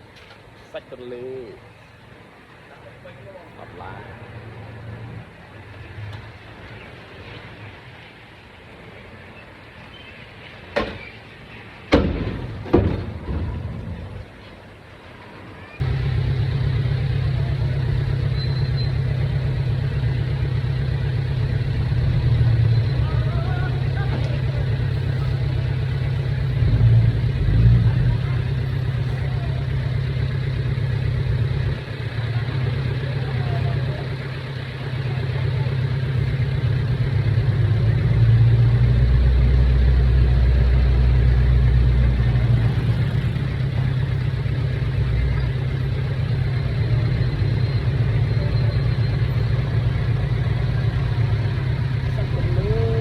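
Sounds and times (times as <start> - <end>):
heavy machine engine rumbling: 0.0 - 53.0.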